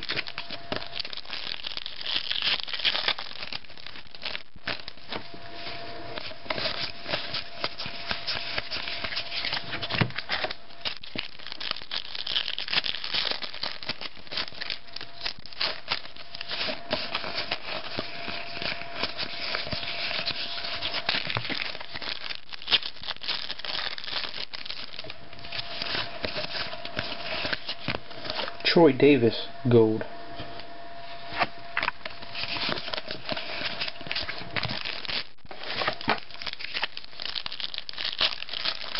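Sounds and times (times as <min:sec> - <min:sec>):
foil wrappers crinkling: 0:00.0 - 0:28.7, 0:31.3 - 0:38.9.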